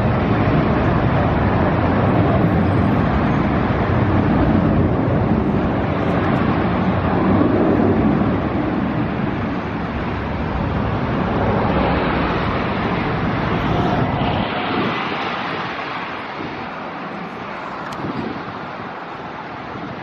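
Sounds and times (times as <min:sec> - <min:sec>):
jet engine rush and rumble: 0:00.0 - 0:20.0.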